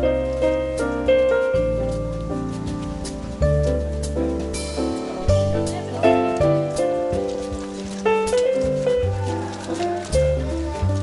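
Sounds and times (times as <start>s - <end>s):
faint ticking percussion: 0.0s - 11.0s.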